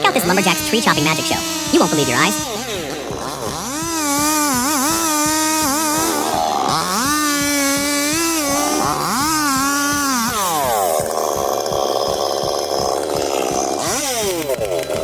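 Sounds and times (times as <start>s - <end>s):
chainsaw revving and cutting: 0.0s - 15.0s.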